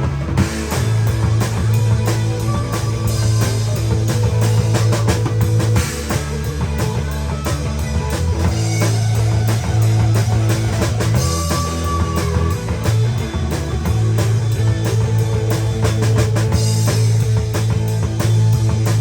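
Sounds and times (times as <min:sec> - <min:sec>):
drum kit beat: 0:00.0 - 0:19.0
guitar: 0:00.0 - 0:19.0
low bass notes: 0:00.0 - 0:19.0.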